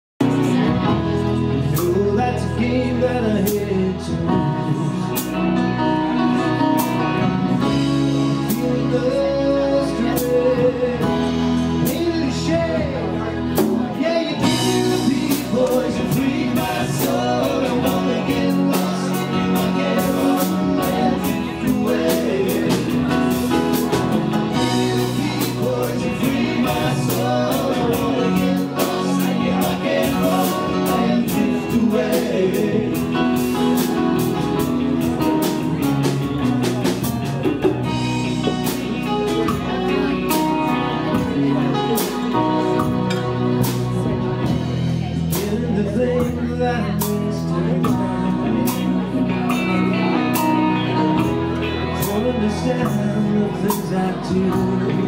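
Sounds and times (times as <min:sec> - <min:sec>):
man singing: 0:00.2 - 0:37.1, 0:37.8 - 0:55.0
live rock band playing: 0:00.2 - 0:55.0.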